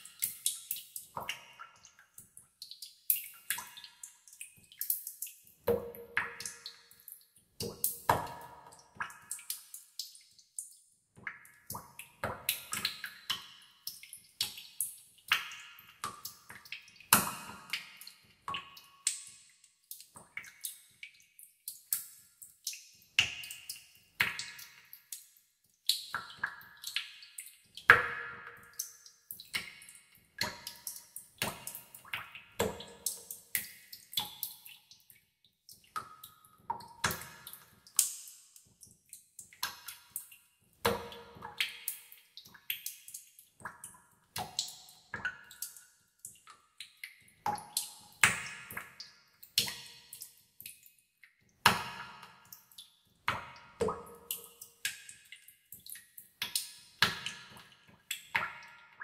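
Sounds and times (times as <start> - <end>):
water drops plinking with echo: 0.0 - 25.3, 25.9 - 35.1, 39.6 - 50.9, 51.6 - 59.0.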